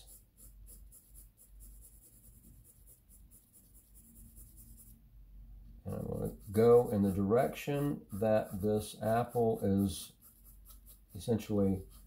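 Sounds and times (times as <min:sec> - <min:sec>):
pencil scratching on paper: 0:00.0 - 0:05.0, 0:05.9 - 0:12.0.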